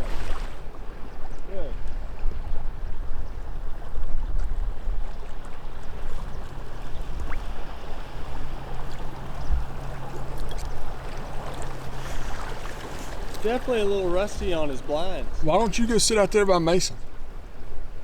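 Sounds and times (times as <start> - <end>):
water sloshing and splashing: 0.0 - 2.6, 3.8 - 16.6.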